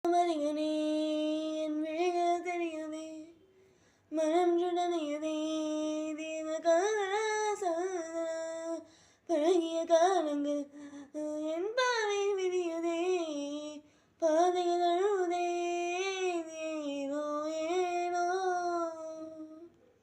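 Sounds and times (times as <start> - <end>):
woman singing unaccompanied: 0.0 - 3.4, 4.1 - 19.7.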